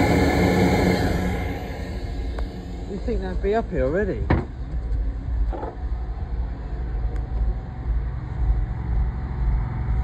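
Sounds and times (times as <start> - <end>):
engine rumbling: 0.0 - 10.0
faint steady whine: 0.0 - 10.0.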